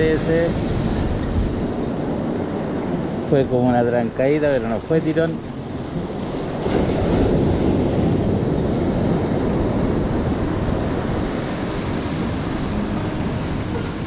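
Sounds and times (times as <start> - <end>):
ocean surf washing on shore: 0.0 - 14.0
wind on microphone: 0.0 - 14.0.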